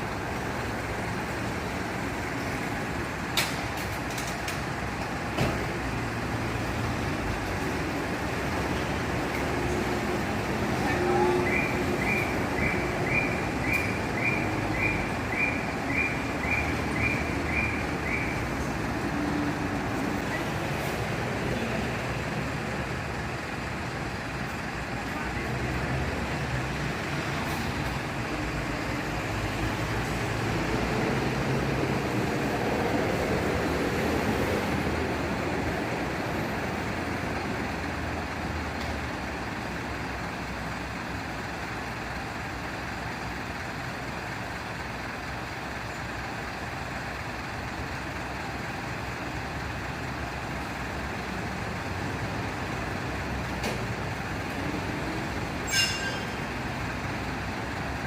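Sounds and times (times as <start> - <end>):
heavy vehicle engine running: 0.0 - 58.0
street traffic: 0.0 - 58.0.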